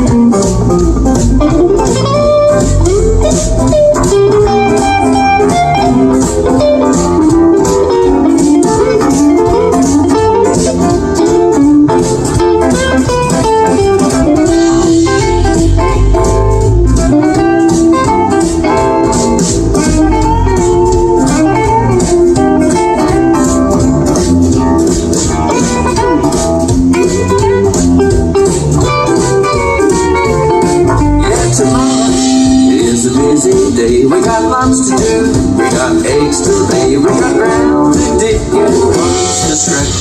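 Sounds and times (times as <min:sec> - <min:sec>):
electric guitar: 0:00.0 - 0:40.0
live band playing blues: 0:00.0 - 0:40.0.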